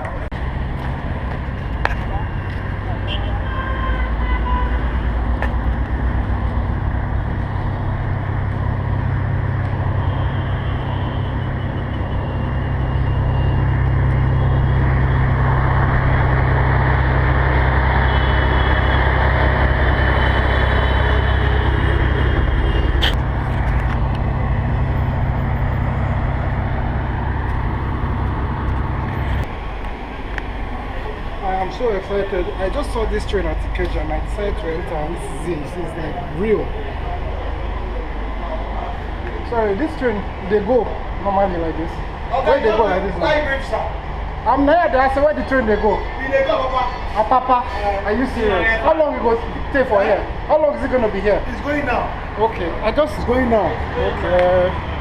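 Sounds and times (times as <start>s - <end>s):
heavy vehicle engine rumbling: 0.0s - 55.0s.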